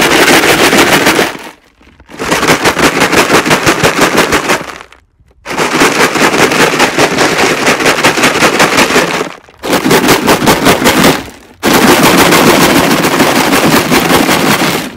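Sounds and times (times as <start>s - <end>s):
rocks rattling in plastic jug: 0.0s - 14.9s.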